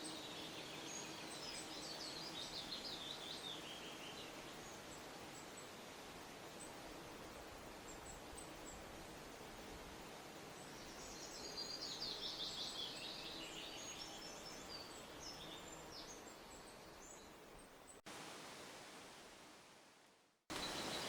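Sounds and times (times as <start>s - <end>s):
songbirds chirping: 0.0s - 19.2s, 20.5s - 21.0s
steady background hiss: 0.0s - 21.0s.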